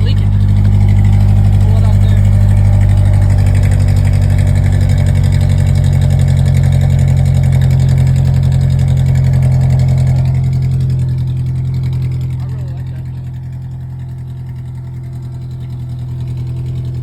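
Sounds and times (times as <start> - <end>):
pickup truck exhaust idling: 0.0 - 17.0.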